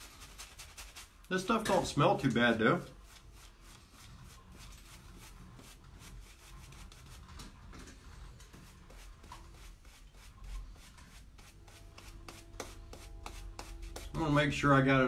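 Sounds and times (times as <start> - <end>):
shaving brush scrubbing soap: 0.0 - 7.4, 8.3 - 14.6.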